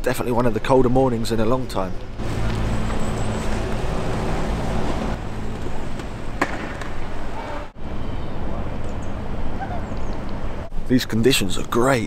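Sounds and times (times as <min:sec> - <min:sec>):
road traffic rumble: 0:00.9 - 0:12.0.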